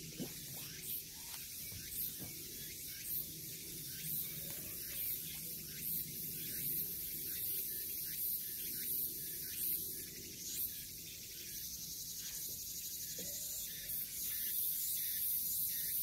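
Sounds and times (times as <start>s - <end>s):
insects hissing pulsing call: 0.0s - 16.0s.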